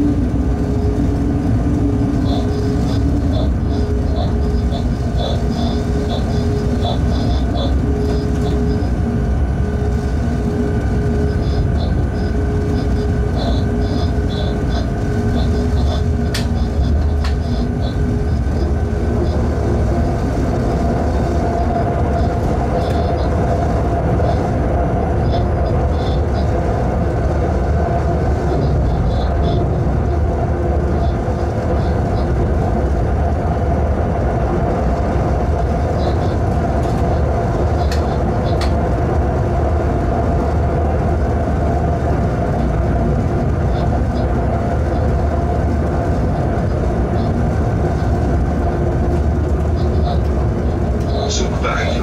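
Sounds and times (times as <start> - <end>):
locomotive low rumble: 0.0 - 52.0.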